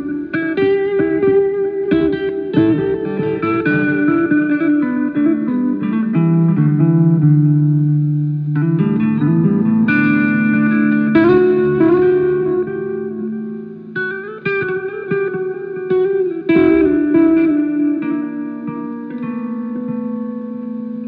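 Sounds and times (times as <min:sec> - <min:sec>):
guitar playing: 0:00.0 - 0:21.0.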